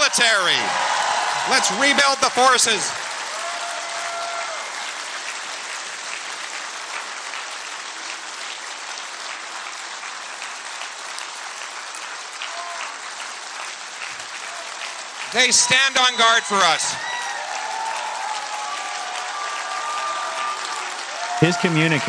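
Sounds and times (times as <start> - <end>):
large crowd applauding: 0.0 - 22.0.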